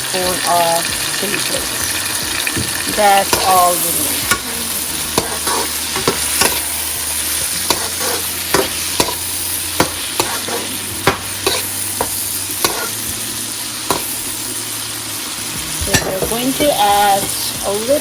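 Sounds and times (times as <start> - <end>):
food frying in oil: 0.0 - 18.0
utensil scraping a pan: 2.4 - 17.6.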